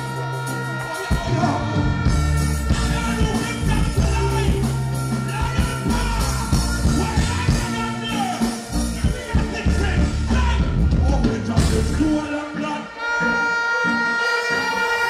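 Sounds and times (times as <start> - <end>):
live reggae music: 0.0 - 15.0
man singing into microphone: 0.0 - 15.0.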